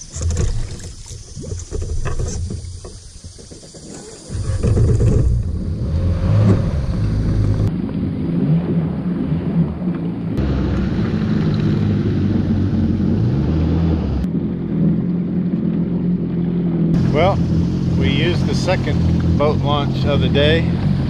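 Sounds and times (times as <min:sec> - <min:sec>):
watercraft engine running: 0:00.0 - 0:21.0.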